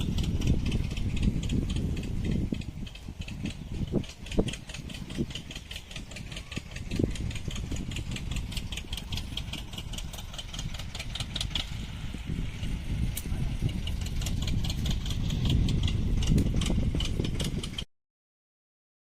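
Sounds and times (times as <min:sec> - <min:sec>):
engine ticking over rumble: 0:00.0 - 0:17.9.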